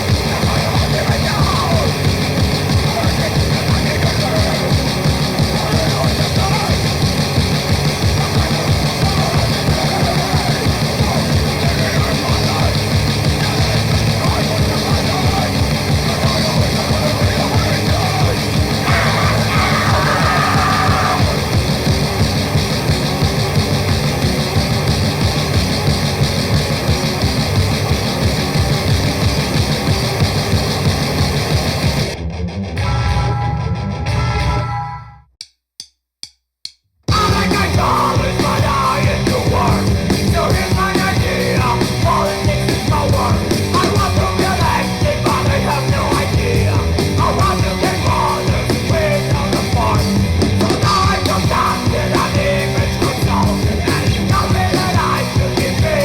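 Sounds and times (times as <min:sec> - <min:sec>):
drums: 0:00.0 - 0:35.1, 0:37.0 - 0:56.0
distorted guitars: 0:00.0 - 0:35.3, 0:37.1 - 0:56.0
bass: 0:00.0 - 0:35.4, 0:36.7 - 0:56.0.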